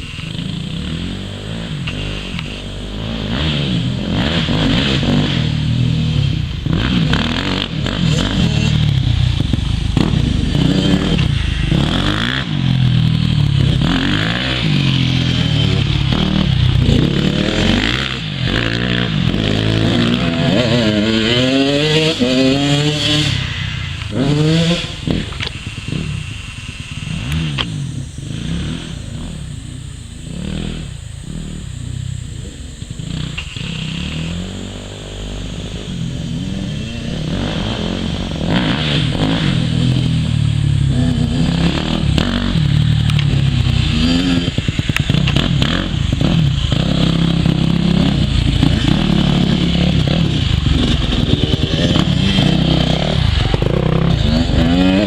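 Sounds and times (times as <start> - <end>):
bike engine climbing in pitch: 0.0 - 55.0
motocross bikes racing: 0.0 - 55.0.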